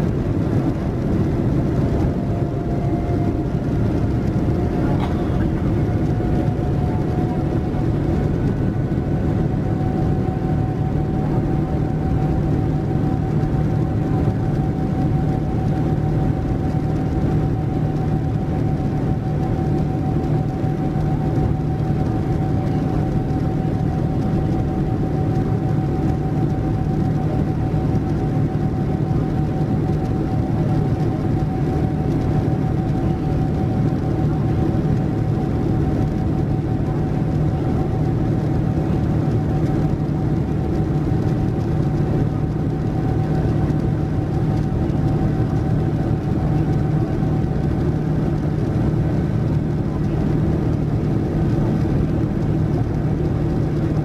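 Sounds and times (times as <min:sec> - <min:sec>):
jet engine roar in cabin: 0:00.0 - 0:54.0.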